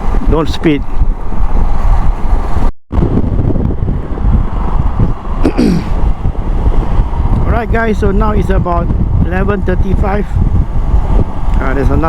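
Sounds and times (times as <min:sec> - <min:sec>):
motorcycle road and engine noise: 0:00.0 - 0:12.0
wind noise on microphone: 0:00.0 - 0:12.0.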